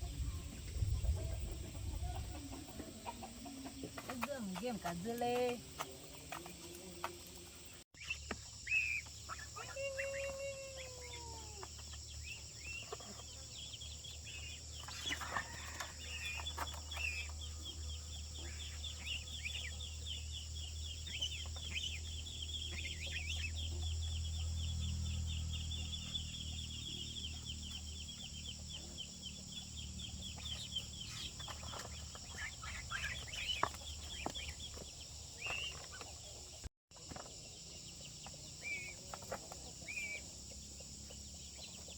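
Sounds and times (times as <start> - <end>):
chickens clucking: 0.0 - 20.2, 25.8 - 41.9.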